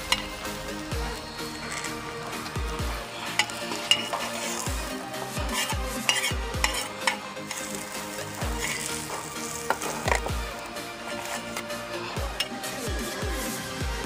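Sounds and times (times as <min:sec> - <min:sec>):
egg sizzling in oil: 0:00.0 - 0:12.5
metal spatula scraping a pan: 0:00.0 - 0:12.8.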